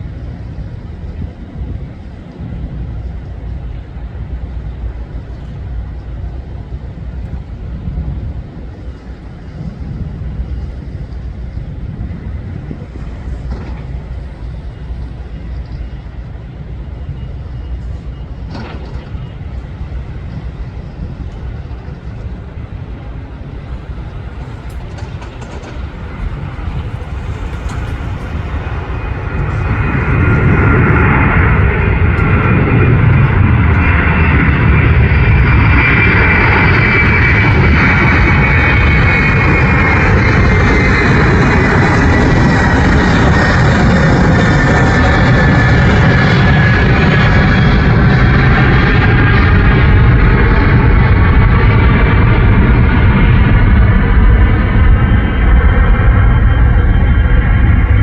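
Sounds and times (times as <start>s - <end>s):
jet engines at takeoff thrust: 0.0s - 58.0s.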